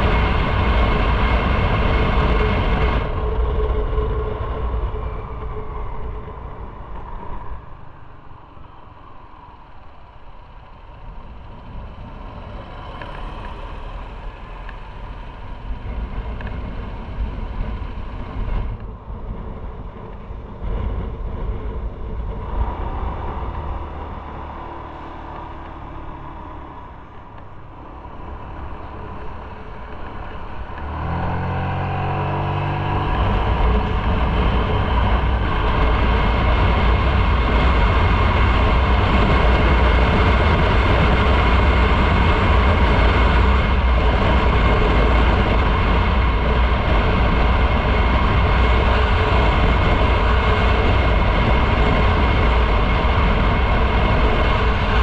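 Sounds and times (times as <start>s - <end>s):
motorcycle engine: 0.0s - 55.0s
road noise: 0.0s - 55.0s.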